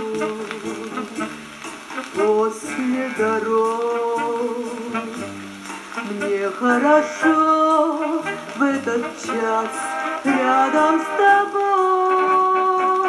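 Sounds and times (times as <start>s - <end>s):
song on a vinyl record: 0.0s - 13.0s.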